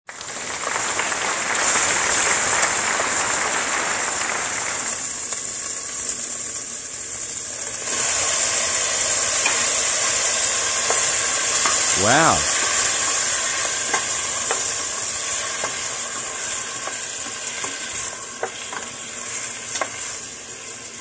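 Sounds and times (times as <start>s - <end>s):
onions sizzling in hot oil: 0.1s - 21.0s.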